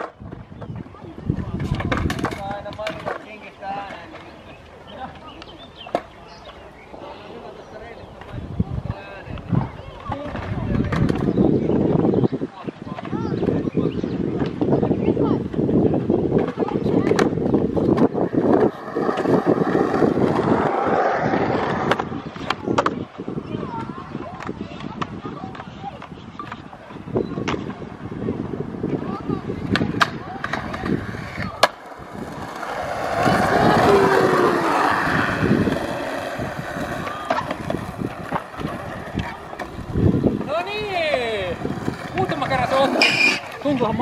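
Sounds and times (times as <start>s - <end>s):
skateboard clacking: 0.0s - 7.0s, 8.1s - 11.3s, 16.3s - 44.0s
skateboard wheels rolling on concrete: 0.0s - 44.0s.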